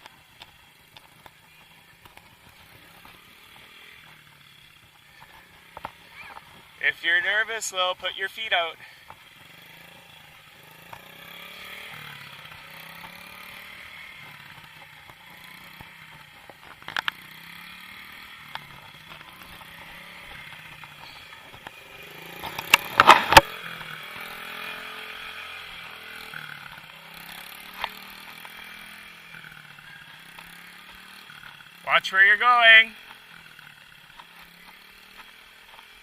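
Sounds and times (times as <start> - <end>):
small motorcycle engine running: 0.0 - 36.0.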